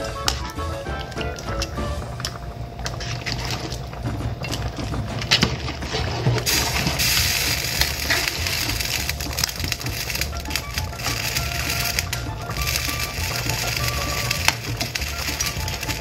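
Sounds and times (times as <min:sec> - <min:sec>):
metal ladle scraping pot: 0:00.0 - 0:16.0.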